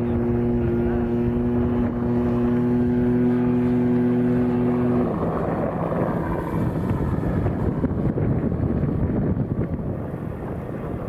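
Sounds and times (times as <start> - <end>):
electric motor and propeller whine: 0.0 - 11.0
wind noise: 0.0 - 11.0.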